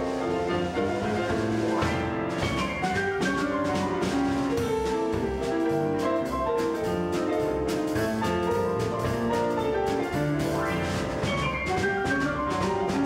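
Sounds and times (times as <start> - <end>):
bass: 0.0 - 13.0
drums: 0.0 - 13.0
quick piano notes: 0.0 - 13.0.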